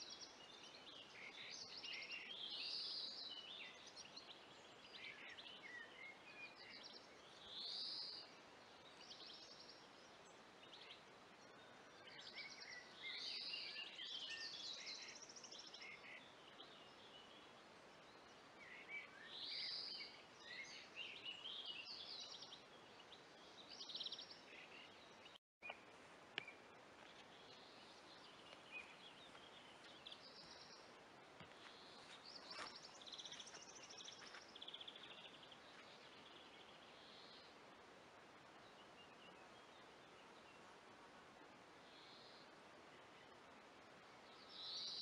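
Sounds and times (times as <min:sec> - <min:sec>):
soft steady hiss: 0:00.0 - 0:45.0
songbirds singing: 0:00.0 - 0:45.0.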